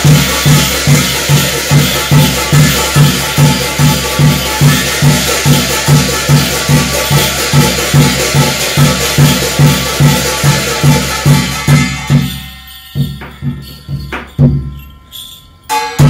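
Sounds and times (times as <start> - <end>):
jingling cymbals and bells: 0.0 - 16.0
steady drum beat: 0.0 - 16.0.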